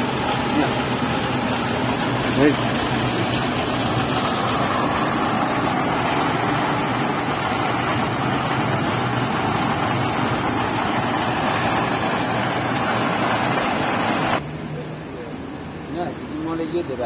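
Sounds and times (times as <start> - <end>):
low motor hum: 0.0 - 14.4
machine mechanical churning: 0.0 - 14.4.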